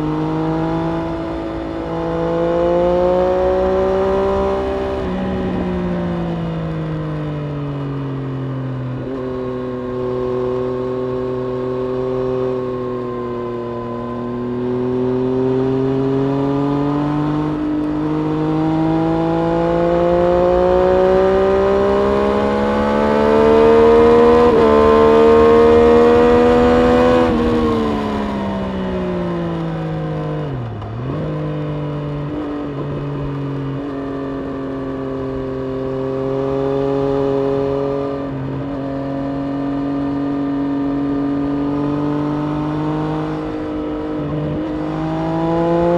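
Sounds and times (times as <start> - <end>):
motorcycle engine at speed: 0.0 - 45.9.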